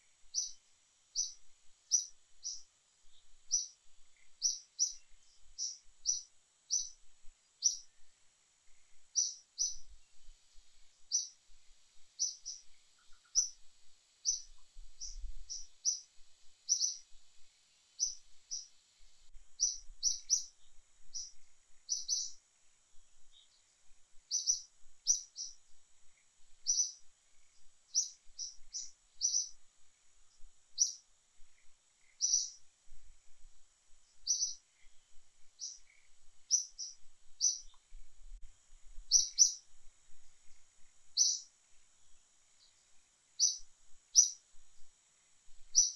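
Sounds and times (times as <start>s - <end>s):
bird chirping: 0.2s - 22.4s, 23.2s - 29.6s, 30.3s - 32.7s, 34.1s - 38.0s, 39.0s - 39.7s, 41.1s - 41.5s, 42.5s - 44.4s, 45.7s - 45.9s.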